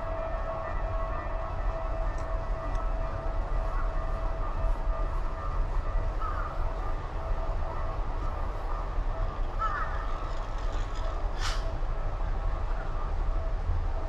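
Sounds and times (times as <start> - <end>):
constant hum: 0.0 - 14.0
traffic rumble: 0.0 - 14.0.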